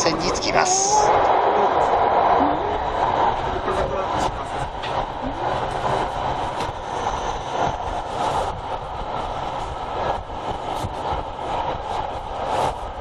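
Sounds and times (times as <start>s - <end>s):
train wheels rumbling inside carriage: 0.0s - 13.0s.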